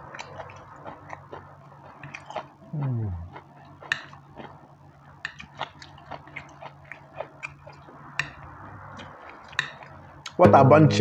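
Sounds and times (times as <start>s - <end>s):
person chewing: 0.0s - 10.4s.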